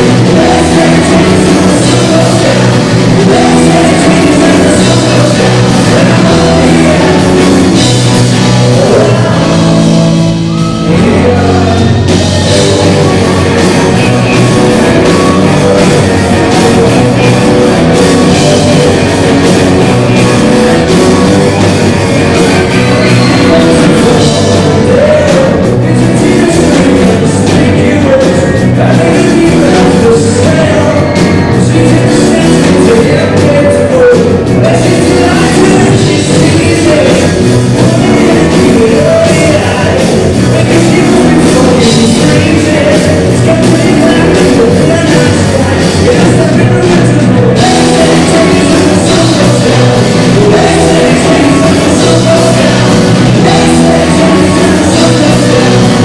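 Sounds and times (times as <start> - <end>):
lead vocal singing: 0.0 - 56.0
rock band playing live: 0.0 - 56.0.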